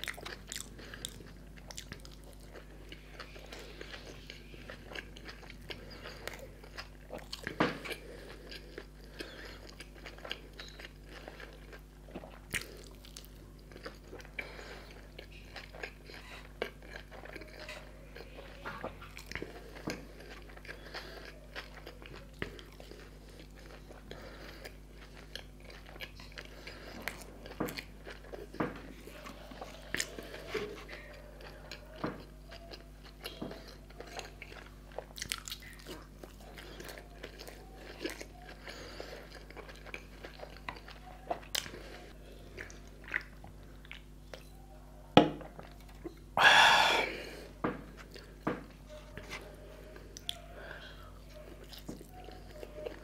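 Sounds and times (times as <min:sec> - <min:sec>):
chewing and biting food: 0:00.0 - 0:44.7, 0:47.6 - 0:53.0.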